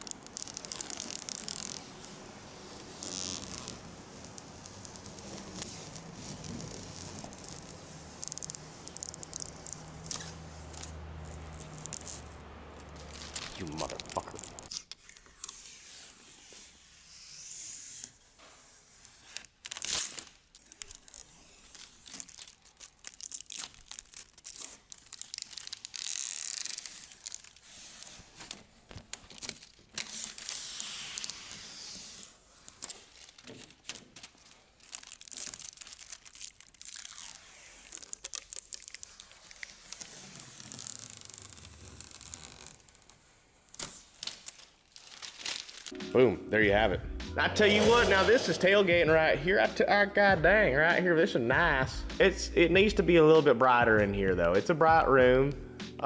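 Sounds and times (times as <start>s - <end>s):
plastic film peeling: 0.0s - 46.0s
sharp plastic crinkles: 0.0s - 46.0s.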